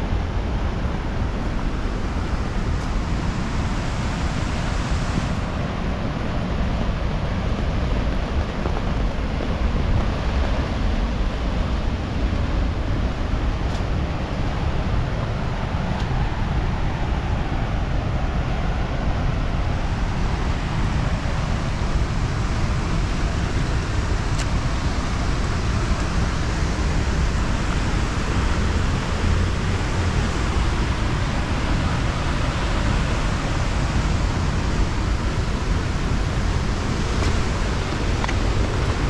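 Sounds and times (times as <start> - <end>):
river rushing roar: 0.0 - 39.0.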